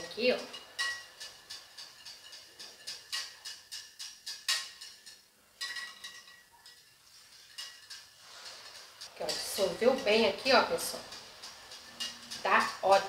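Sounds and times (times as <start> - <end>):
whisk clicking against glass bowl: 0.4 - 6.8, 8.7 - 13.0.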